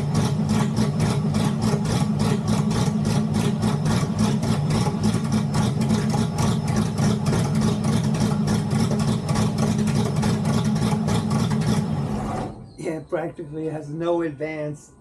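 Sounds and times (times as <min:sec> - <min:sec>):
engine idling with pulsing exhaust: 0:00.0 - 0:12.8.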